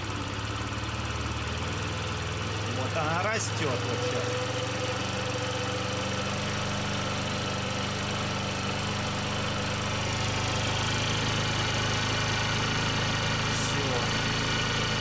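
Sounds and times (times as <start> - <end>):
scooter engine idling: 0.0 - 15.0.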